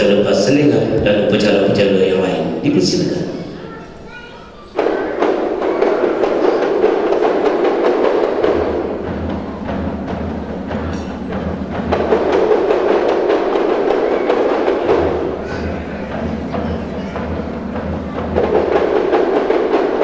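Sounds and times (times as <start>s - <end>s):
drums beaten in fast rhythm: 0.0s - 20.0s.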